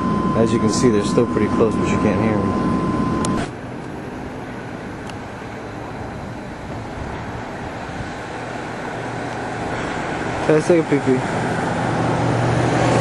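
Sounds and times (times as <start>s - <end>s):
small aircraft engine rumble: 0.0s - 13.0s.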